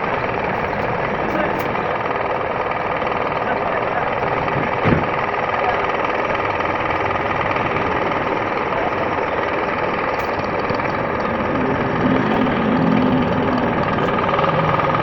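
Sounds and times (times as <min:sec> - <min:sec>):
loud low hum: 0:00.0 - 0:15.0
machine running: 0:00.0 - 0:15.0.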